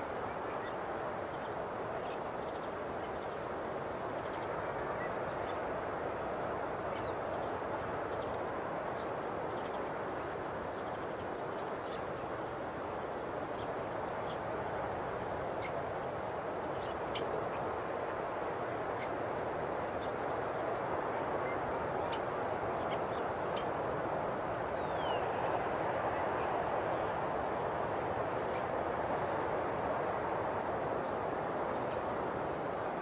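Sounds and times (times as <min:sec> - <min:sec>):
waves breaking on shore: 0:03.8 - 0:33.0.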